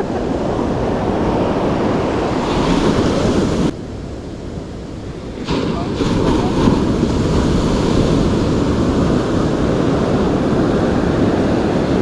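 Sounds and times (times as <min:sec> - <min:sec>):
waves breaking on a beach: 0:00.0 - 0:12.0
wind buffeting the microphone: 0:00.0 - 0:12.0.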